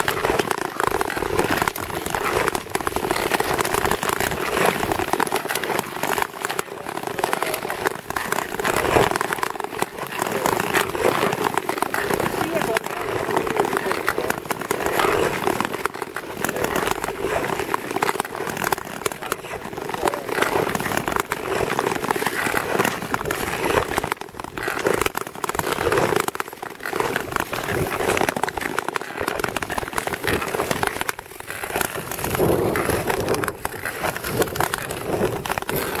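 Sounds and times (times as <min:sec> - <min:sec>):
skate blades scraping on ice: 0:00.0 - 0:36.0.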